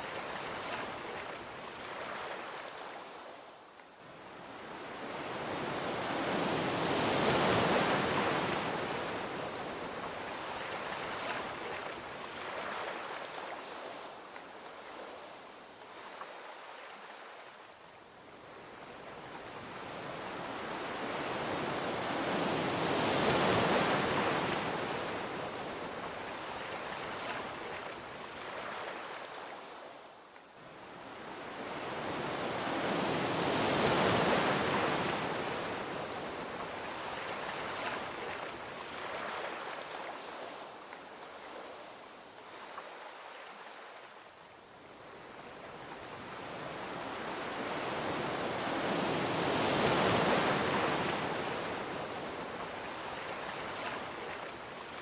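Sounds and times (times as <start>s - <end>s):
ocean waves washing onto beach: 0.0s - 55.0s.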